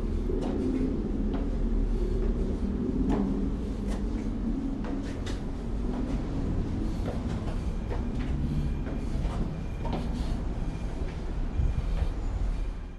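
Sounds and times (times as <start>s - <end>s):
vehicle rumbling: 0.0s - 12.9s.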